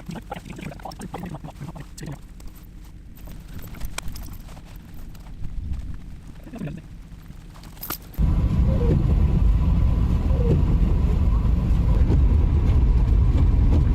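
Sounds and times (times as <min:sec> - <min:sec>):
road noise: 0:00.0 - 0:13.9
van engine rumble: 0:00.0 - 0:13.9.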